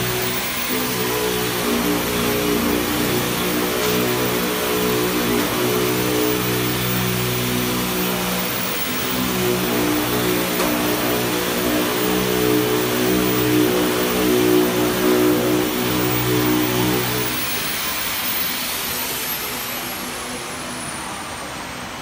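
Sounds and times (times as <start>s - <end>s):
low droning hum: 0.0s - 17.8s.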